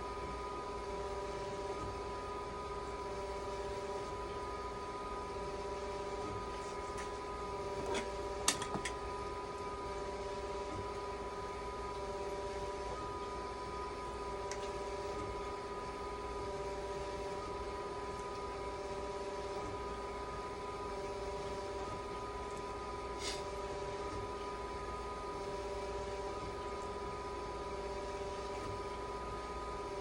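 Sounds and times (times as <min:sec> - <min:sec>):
machine humming with fixed tones: 0:00.0 - 0:30.0.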